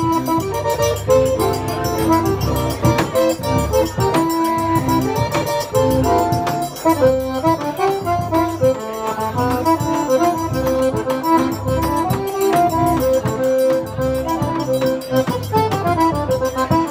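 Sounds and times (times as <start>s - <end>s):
accordion playing lively melody: 0.0s - 16.9s
bass drum beat: 0.0s - 16.9s.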